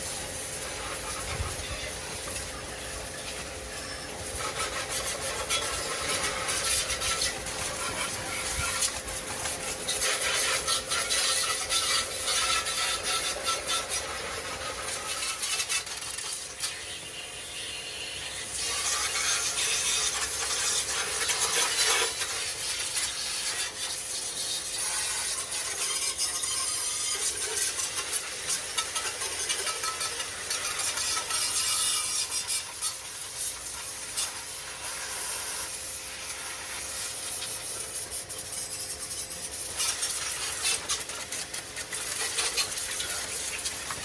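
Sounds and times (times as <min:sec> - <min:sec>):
scrubbing and rubbing: 0:04.3 - 0:16.6, 0:18.6 - 0:44.0.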